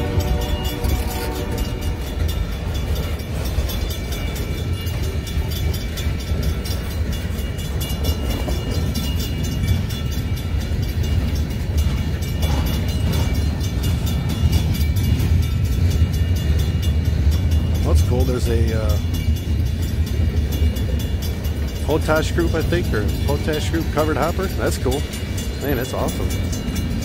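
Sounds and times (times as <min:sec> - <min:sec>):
crossing signal bell ringing: 0:00.0 - 0:27.0
train wheels rumbling on rail: 0:00.0 - 0:27.0.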